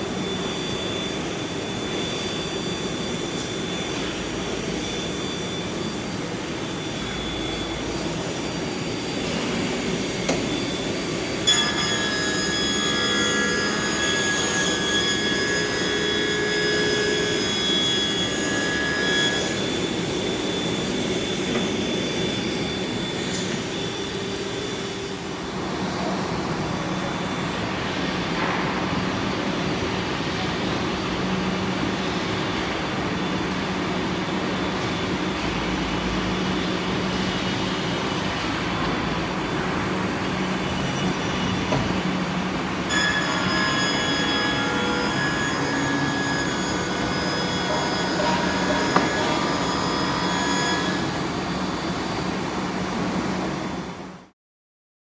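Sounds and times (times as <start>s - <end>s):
high machine whine: 0.0s - 54.3s.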